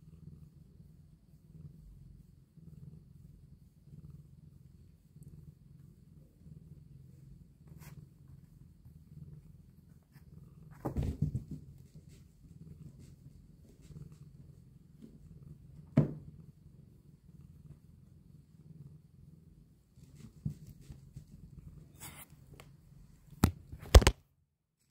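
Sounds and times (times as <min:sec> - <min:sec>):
cat purring: 0:00.0 - 0:23.4.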